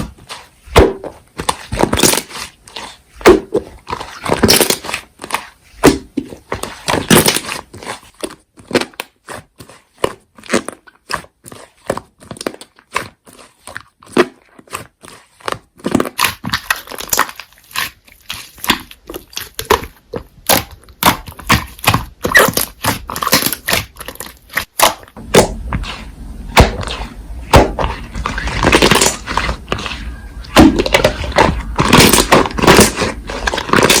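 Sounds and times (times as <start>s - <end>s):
slime squishing with sticky clicks: 0.0s - 34.0s.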